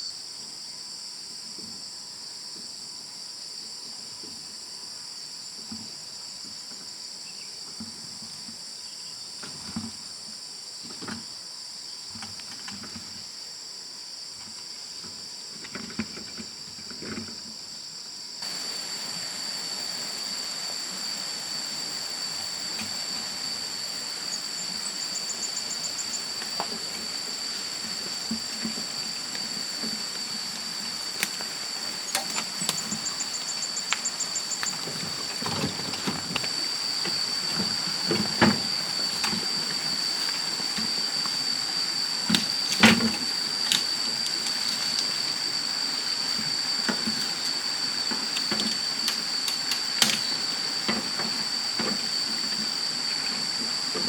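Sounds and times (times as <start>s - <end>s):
insects chirring: 0.0s - 54.0s
steady hiss: 0.0s - 54.0s.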